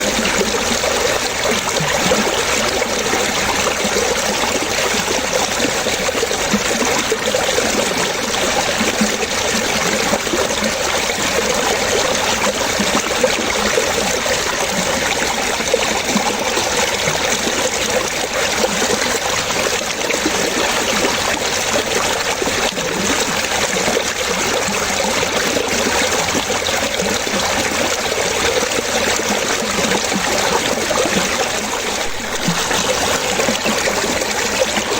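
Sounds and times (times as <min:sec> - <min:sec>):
running water trickling: 0:00.0 - 0:34.9.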